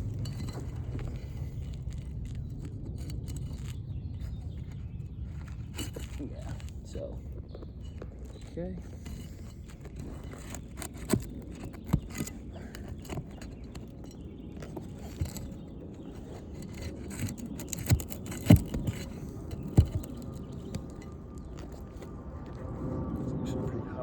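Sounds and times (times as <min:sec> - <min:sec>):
steady low rumble: 0:00.0 - 0:14.6, 0:15.2 - 0:24.0
knocks and scrapes on roof shingles: 0:00.0 - 0:23.6.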